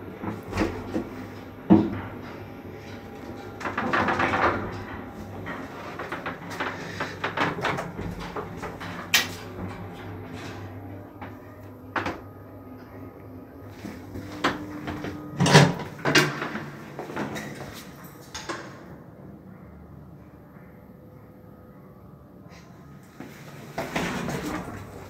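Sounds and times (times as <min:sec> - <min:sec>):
elevator doors clicking and knocking: 0:00.0 - 0:19.0, 0:23.7 - 0:25.0
low steady hum: 0:00.0 - 0:25.0.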